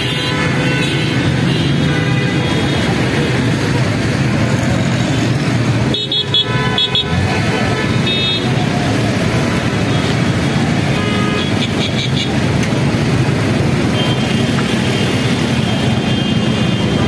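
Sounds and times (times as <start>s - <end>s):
traffic engines rumbling: 0.0s - 17.0s.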